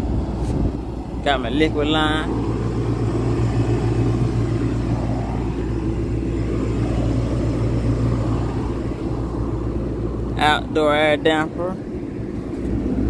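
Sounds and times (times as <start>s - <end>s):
rooftop unit low hum and drone: 0.0s - 13.0s.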